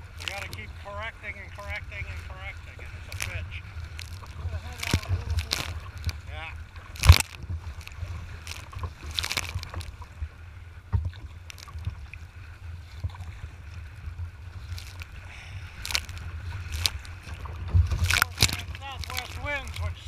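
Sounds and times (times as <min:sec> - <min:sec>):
water splashes and paddle strokes: 0:00.0 - 0:20.0
wind rumbling on microphone: 0:00.0 - 0:20.0.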